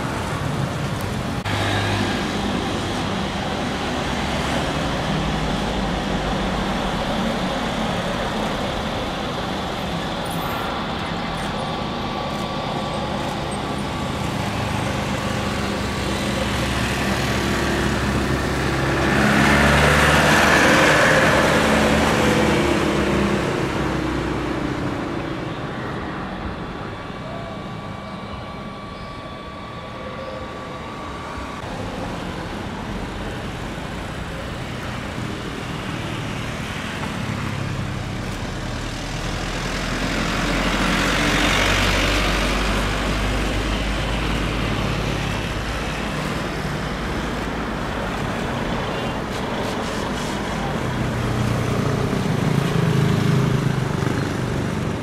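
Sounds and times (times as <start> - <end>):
jet airliner engines: 0.0 - 55.0
low rumble of plane rolling out: 0.0 - 55.0.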